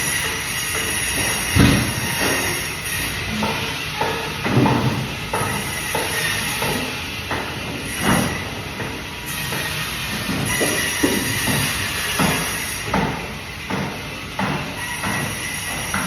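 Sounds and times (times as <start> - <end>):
band saw cutting fish: 0.0 - 13.8, 14.4 - 16.0.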